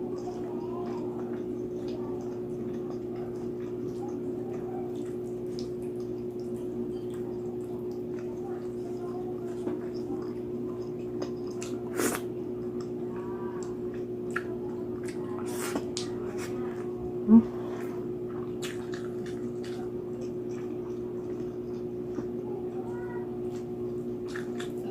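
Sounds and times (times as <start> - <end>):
wet chewing mouth sounds: 0.0 - 22.8, 23.4 - 24.9
steady hum: 0.0 - 24.9.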